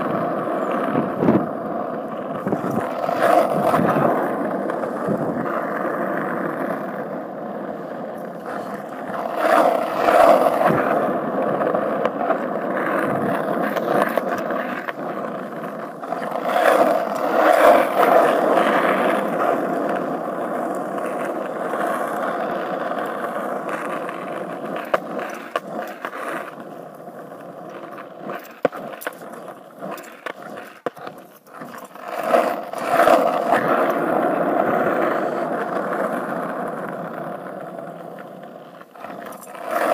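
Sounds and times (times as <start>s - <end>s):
skateboard rolling on asphalt: 0.0s - 39.9s.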